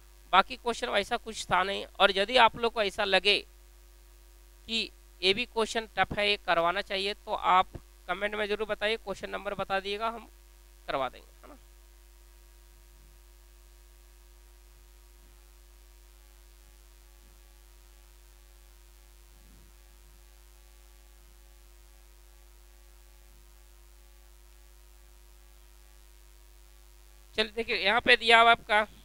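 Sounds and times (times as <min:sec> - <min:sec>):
faint mains hum: 0:00.0 - 0:29.0.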